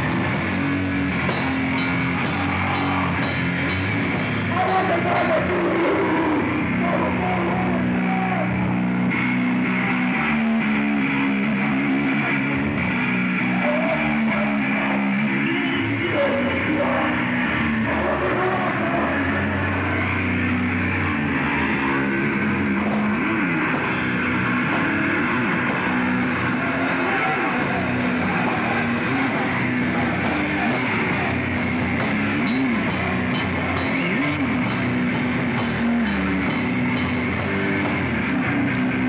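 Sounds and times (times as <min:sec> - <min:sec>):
distorted electric guitar: 0:00.0 - 0:39.0
drum kit: 0:00.0 - 0:39.0.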